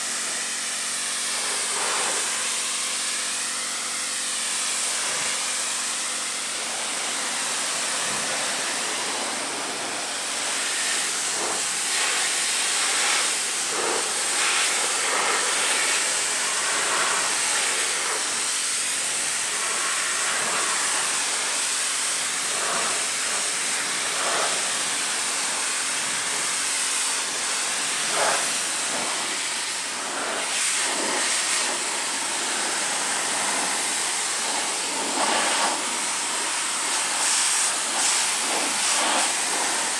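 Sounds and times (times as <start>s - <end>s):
pressure washer spraying hiss: 0.0s - 39.9s.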